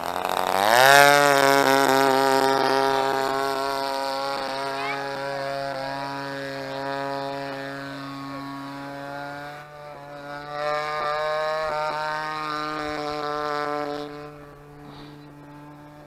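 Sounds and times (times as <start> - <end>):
model plane engine buzzing: 0.0 - 16.0.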